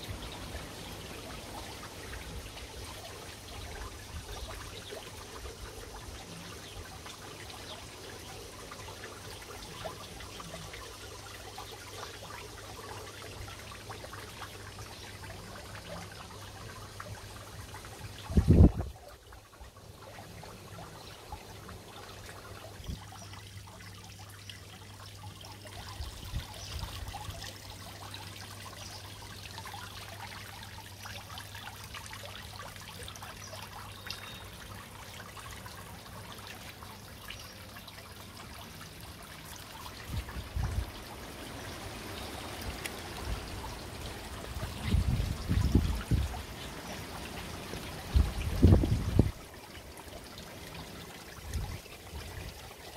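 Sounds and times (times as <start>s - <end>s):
fountain water splashing: 0.0s - 52.9s.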